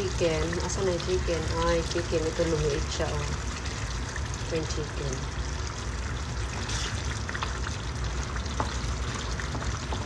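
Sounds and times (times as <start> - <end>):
low rumble of gas stove: 0.0 - 10.0
sauce bubbling in frying pan: 0.0 - 10.0.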